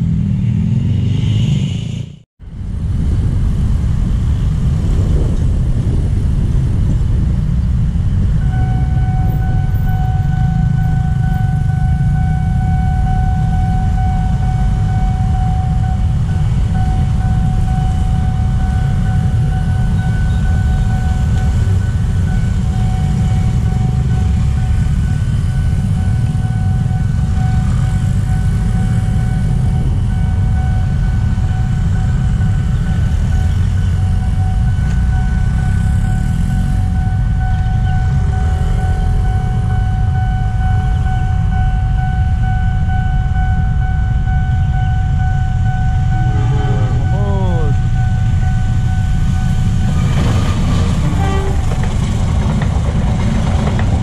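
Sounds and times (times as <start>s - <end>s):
motorcycle traffic rumble: 0.0s - 54.0s
level crossing alarm tone: 8.3s - 51.8s.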